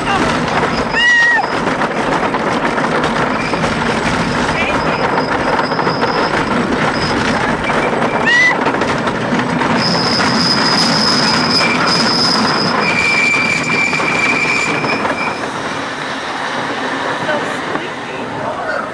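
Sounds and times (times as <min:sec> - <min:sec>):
roller coaster rumble and clatter: 0:00.0 - 0:18.9
wheels squealing on rails: 0:00.0 - 0:18.9.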